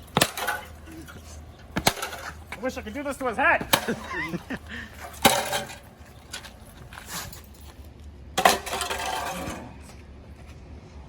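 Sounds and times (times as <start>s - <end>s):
metallic clanks of tools: 0.0s - 7.7s, 8.4s - 9.7s
metal rattling: 0.0s - 7.8s, 8.4s - 9.8s.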